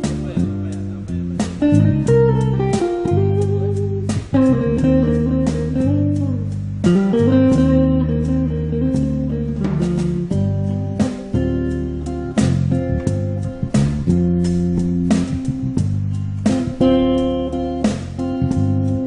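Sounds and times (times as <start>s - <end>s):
band music with plucked guitar: 0.0s - 19.0s.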